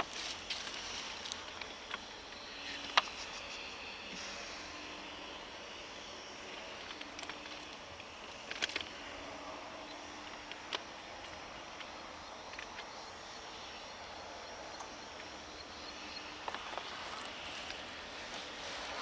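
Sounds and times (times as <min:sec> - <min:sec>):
distant train: 0:00.0 - 0:19.0
high-pitched insect buzz: 0:00.0 - 0:19.0.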